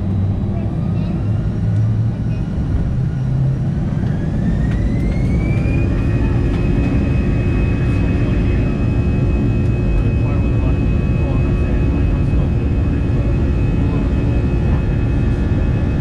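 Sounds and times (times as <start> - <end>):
deep engine rumble: 0.0 - 16.0
jet engine whine: 0.0 - 16.0.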